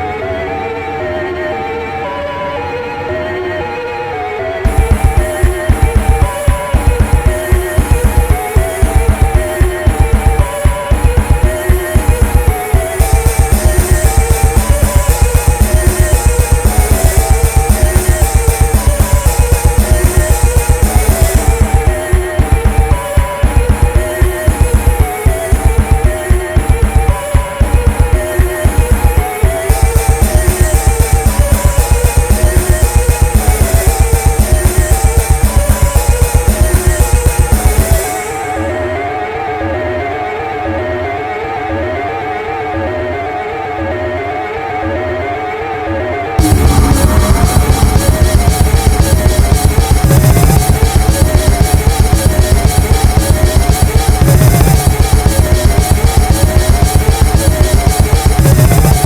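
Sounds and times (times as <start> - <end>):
electronic dance music: 4.7 - 40.0, 46.4 - 59.0.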